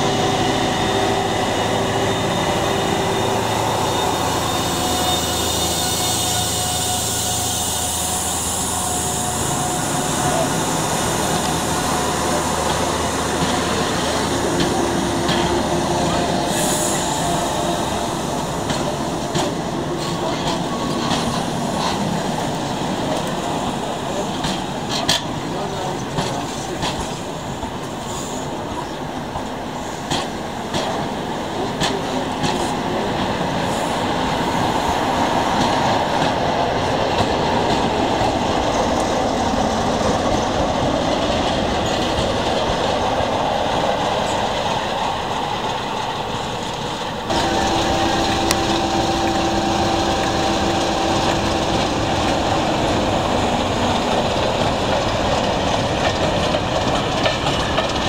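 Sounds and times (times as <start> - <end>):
diesel locomotive engine hum: 0.0 - 58.0
train wheels clicking over rail joints: 8.6 - 33.9, 34.6 - 58.0.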